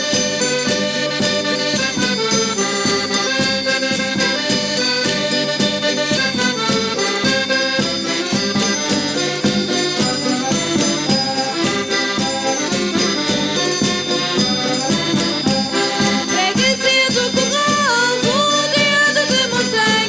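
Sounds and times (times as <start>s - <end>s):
folk dance music: 0.0s - 20.0s.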